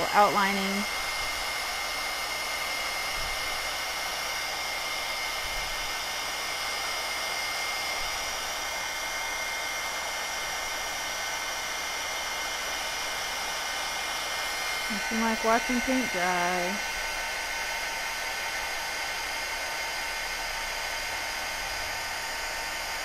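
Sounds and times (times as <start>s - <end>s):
heat tool blowing air: 0.0s - 23.0s.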